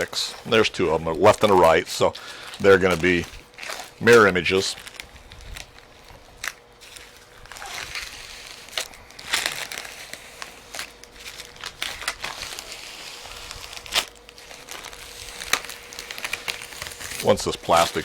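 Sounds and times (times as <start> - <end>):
faint cooler hum: 0.0 - 18.0
plastic film crinkling: 0.0 - 18.0.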